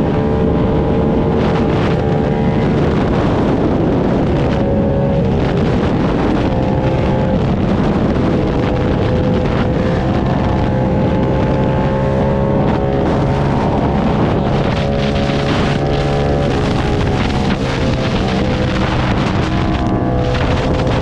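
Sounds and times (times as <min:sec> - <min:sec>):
motorcycle engine cruising: 0:00.0 - 0:21.0
wind on microphone: 0:00.0 - 0:21.0.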